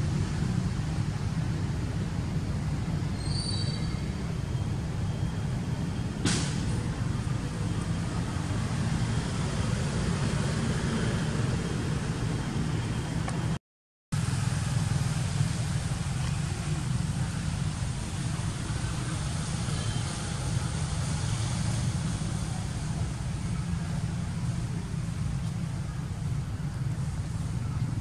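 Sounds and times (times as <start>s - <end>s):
low rumble with hiss: 0.0s - 13.6s, 14.2s - 28.0s.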